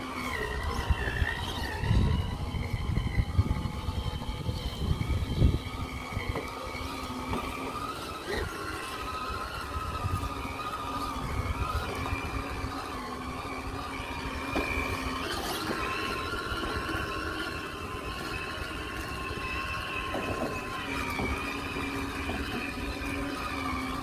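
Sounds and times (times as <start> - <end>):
electric motor and gears whining: 0.0 - 24.0.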